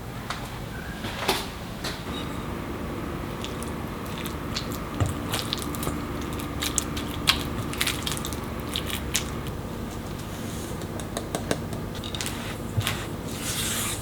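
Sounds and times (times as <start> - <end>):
faint steady hum: 2.0 - 14.0.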